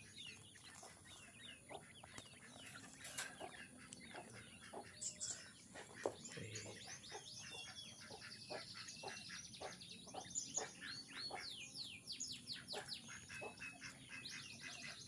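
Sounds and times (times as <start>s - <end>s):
quail chicks peeping: 0.0s - 15.0s.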